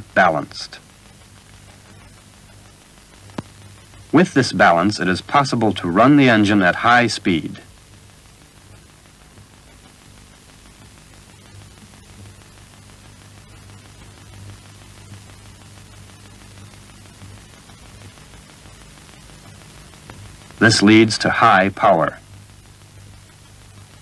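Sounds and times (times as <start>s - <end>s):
faint crackles: 0.0s - 24.0s
film soundtrack hiss: 0.0s - 24.0s.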